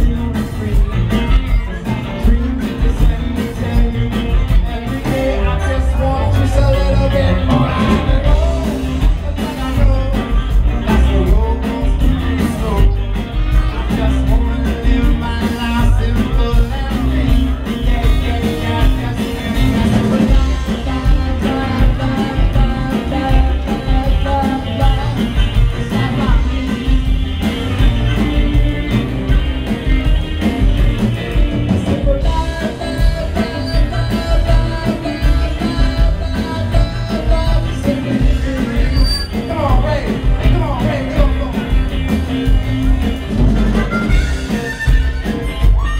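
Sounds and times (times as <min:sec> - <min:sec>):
harmonica lead: 0:00.0 - 0:45.9
reggae band playing: 0:00.0 - 0:45.9.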